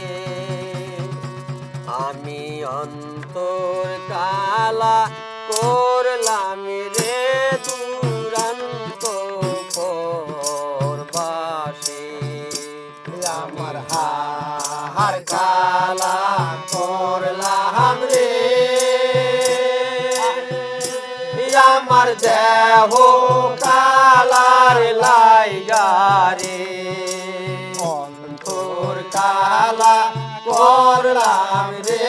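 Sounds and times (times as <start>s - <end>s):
hand drum beat: 0.0s - 5.8s, 7.0s - 32.0s
men singing folk song: 0.0s - 32.0s.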